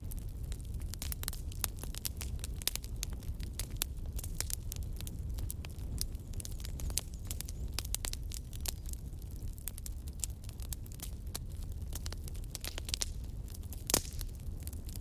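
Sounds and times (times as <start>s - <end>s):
low steady fire rumble: 0.0s - 15.0s
wood fire crackling and popping: 0.0s - 15.0s.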